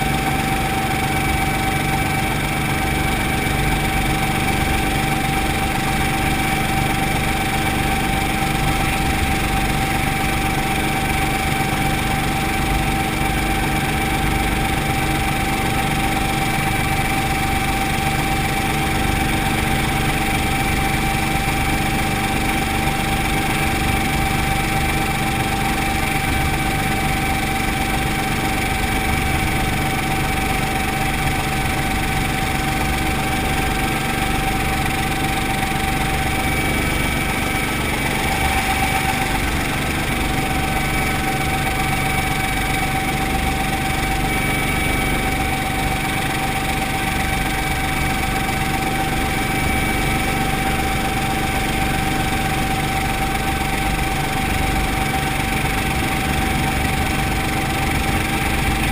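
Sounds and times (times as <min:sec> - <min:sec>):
helicopter engine and rotor running: 0:00.0 - 0:58.9.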